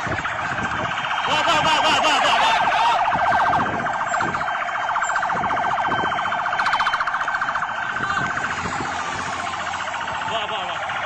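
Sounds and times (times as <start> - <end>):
electronic siren warbling: 0.0 - 11.0.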